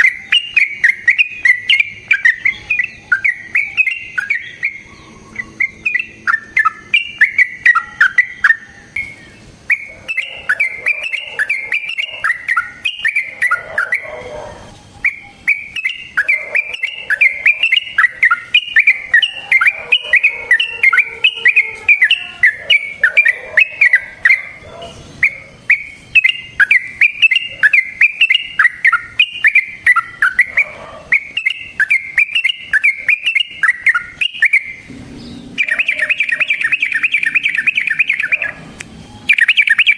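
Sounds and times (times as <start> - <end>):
bulbul singing bubbling song: 0.0 - 39.9.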